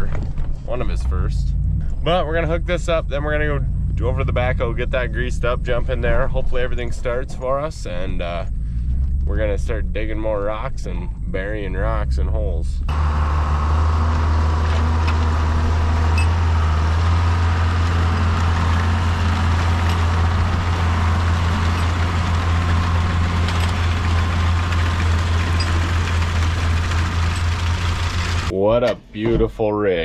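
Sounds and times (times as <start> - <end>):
large engine humming: 0.0 - 28.6.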